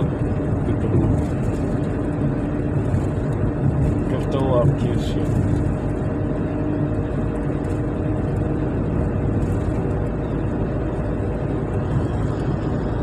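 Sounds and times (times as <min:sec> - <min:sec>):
low engine hum: 0:00.0 - 0:13.0
tyres on asphalt: 0:00.0 - 0:13.0.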